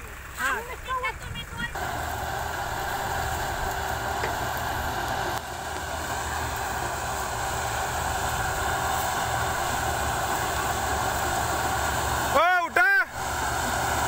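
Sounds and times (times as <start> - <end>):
harvester engine droning: 0.0 - 14.0.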